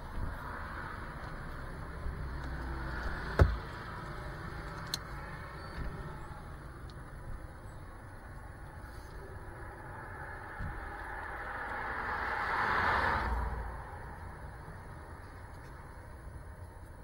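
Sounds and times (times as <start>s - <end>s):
low wind rumble: 0.0s - 17.0s
road vehicle passing: 0.0s - 17.0s.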